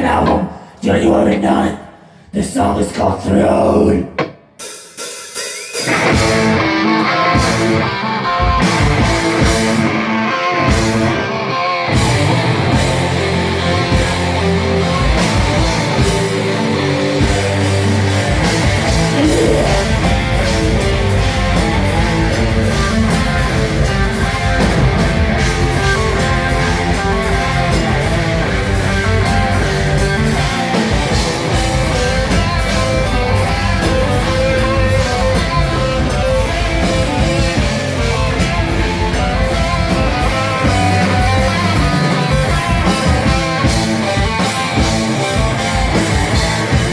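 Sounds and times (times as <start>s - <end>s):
drums: 0.0s - 46.9s
electric guitars: 5.3s - 46.9s
bass guitar: 5.6s - 46.9s.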